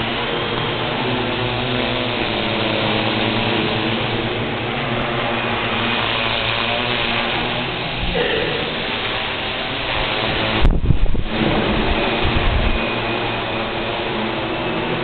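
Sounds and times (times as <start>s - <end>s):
drone motors whirring: 0.0s - 15.0s.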